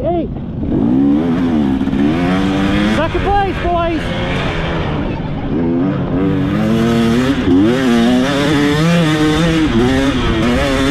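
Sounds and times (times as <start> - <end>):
race vehicle engine revving: 0.6 - 10.9.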